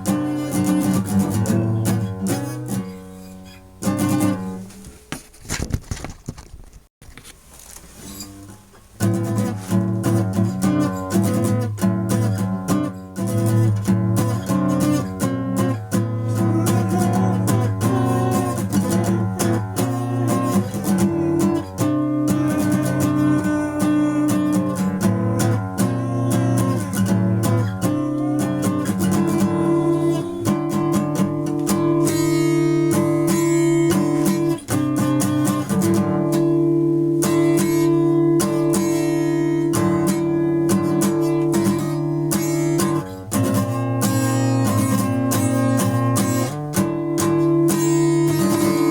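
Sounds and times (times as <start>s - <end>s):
punk guitar chords strummed: 0.0s - 3.0s, 9.0s - 48.9s.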